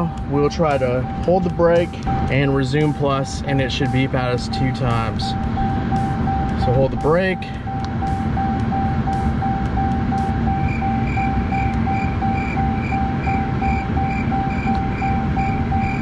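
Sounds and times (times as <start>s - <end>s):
dashboard warning chime beeping: 0.0s - 16.0s
higher warning chime: 0.0s - 16.0s
low steady hum: 0.0s - 16.0s.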